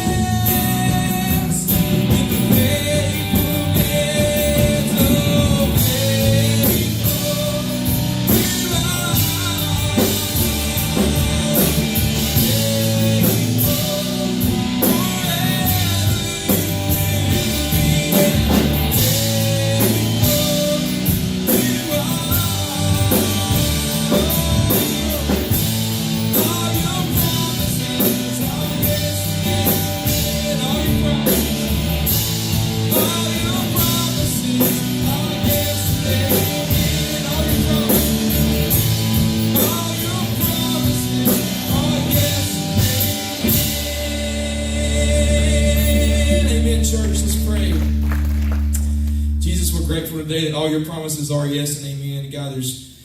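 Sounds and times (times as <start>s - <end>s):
person singing: 0.0s - 32.1s, 32.8s - 47.6s
live rock band playing: 0.0s - 50.6s
drum kit: 0.0s - 51.0s
guitar: 0.0s - 51.7s.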